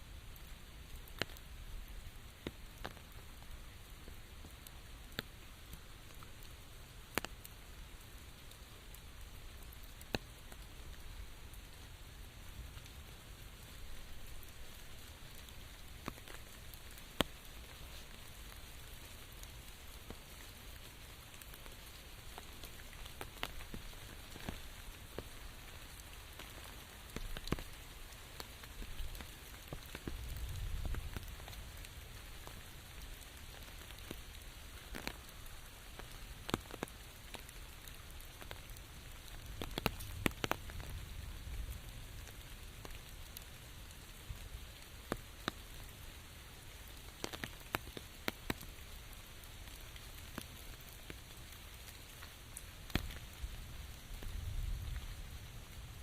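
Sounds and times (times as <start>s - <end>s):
steady rain: 0.0s - 56.0s
raindrops ticking: 0.1s - 56.0s.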